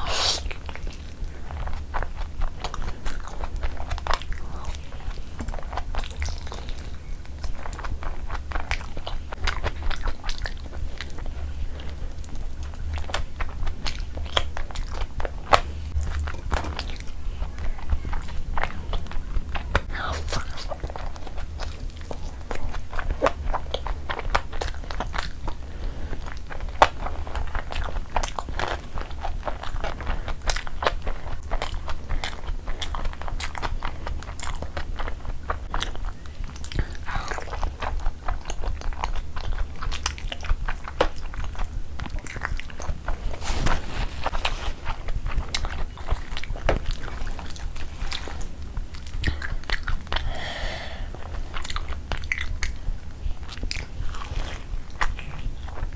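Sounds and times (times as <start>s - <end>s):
person chewing and lip-smacking: 0.0s - 43.4s, 44.2s - 55.9s
steady low hum: 0.0s - 55.9s.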